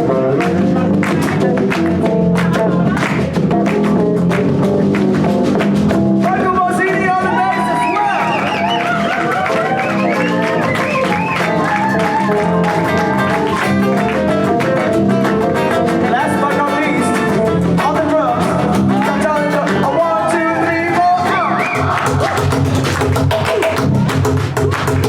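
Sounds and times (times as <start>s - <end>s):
bending lead guitar melody: 0.0s - 22.0s
live rock band playing: 0.0s - 25.0s.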